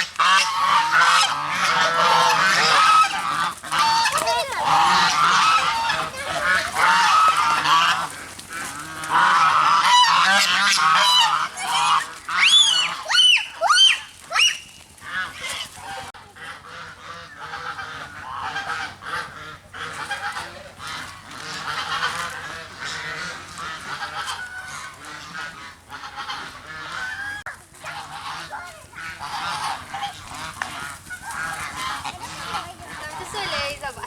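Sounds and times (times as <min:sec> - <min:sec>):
geese honking: 0:00.0 - 0:34.0.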